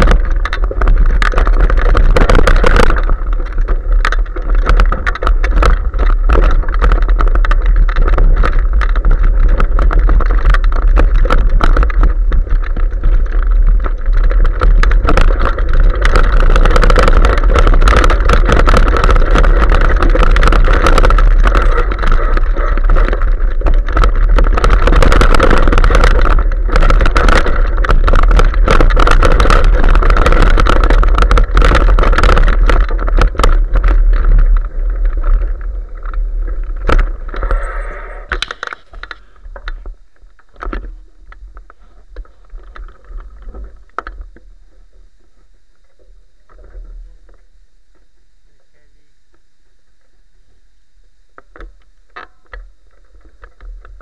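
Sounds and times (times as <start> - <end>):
bicycle clicks: 0.0 - 44.5
bicycle wind and vibration: 0.0 - 54.0.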